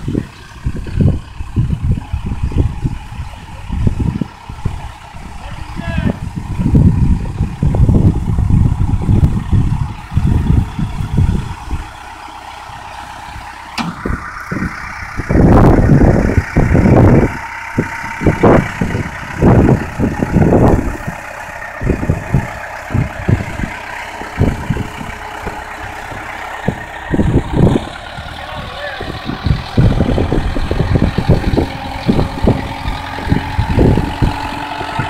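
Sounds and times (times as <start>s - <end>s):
loud low rumbling surges: 0.0s - 35.0s
truck engine idling: 0.0s - 35.0s.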